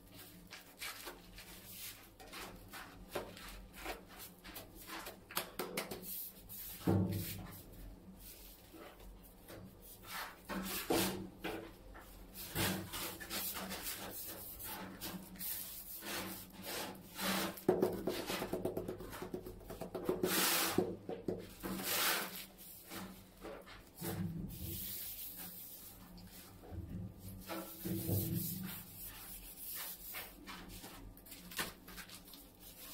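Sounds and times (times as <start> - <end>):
gloved hands rubbing on tiles: 0.0 - 6.8, 12.4 - 20.9, 21.6 - 32.9.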